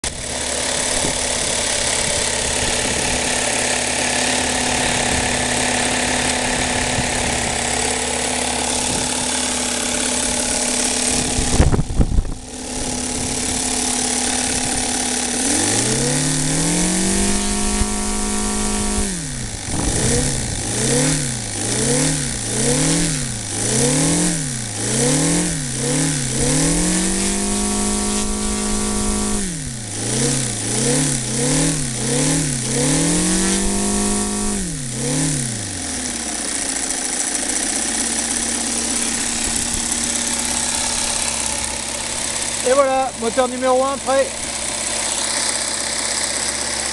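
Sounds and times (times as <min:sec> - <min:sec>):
model engine revving: 0:00.0 - 0:46.9
model engine running at high speed: 0:00.0 - 0:46.9.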